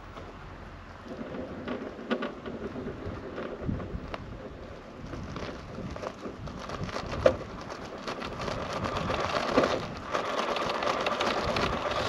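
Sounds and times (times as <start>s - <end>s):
tyres scrabbling on rock: 0.0s - 12.0s.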